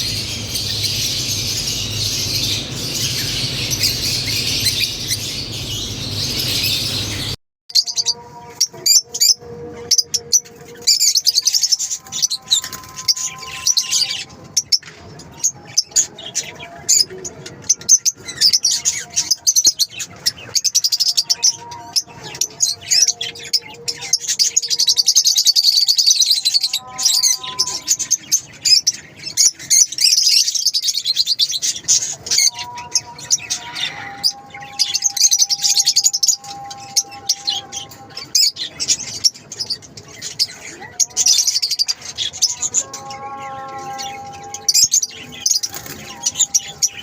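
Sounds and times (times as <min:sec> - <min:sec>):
lovebirds chirping and chattering: 0:00.0 - 0:47.0.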